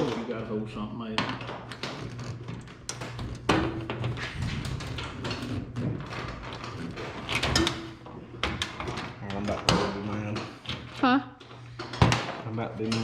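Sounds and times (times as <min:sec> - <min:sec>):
parts knocking and clicking: 0:01.1 - 0:13.0.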